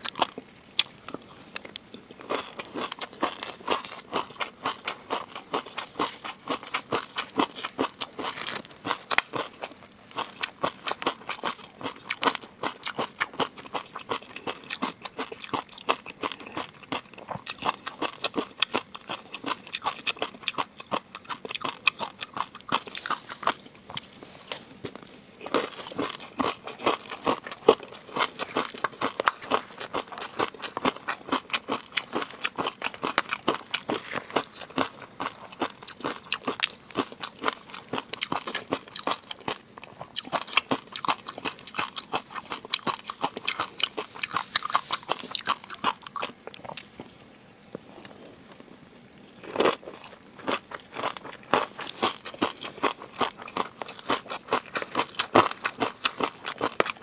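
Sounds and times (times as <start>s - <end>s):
person chewing seafood: 0.0s - 47.1s, 49.3s - 57.0s.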